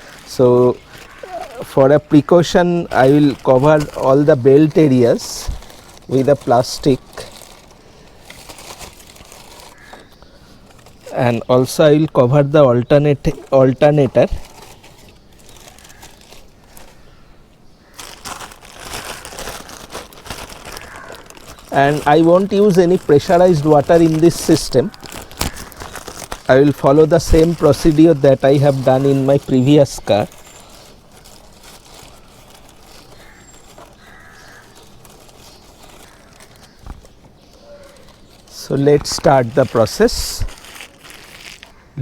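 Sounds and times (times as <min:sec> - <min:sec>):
plastic sheet crinkling: 0:00.0 - 0:17.2, 0:17.8 - 0:41.9.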